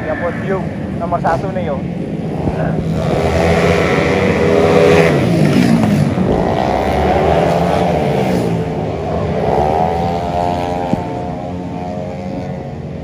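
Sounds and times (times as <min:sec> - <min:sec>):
racing scooter engines: 0:00.0 - 0:13.0.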